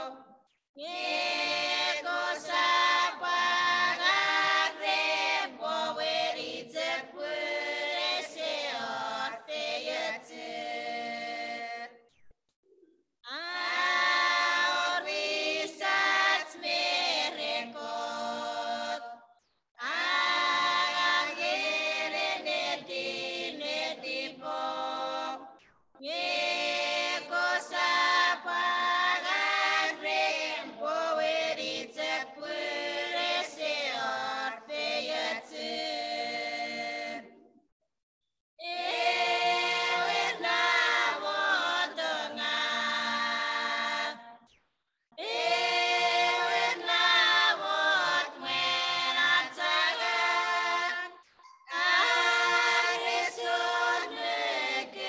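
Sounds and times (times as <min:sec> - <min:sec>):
women singing a hymn unaccompanied: 0:00.0 - 0:12.0, 0:13.3 - 0:37.5, 0:38.6 - 0:44.4, 0:45.2 - 0:55.0.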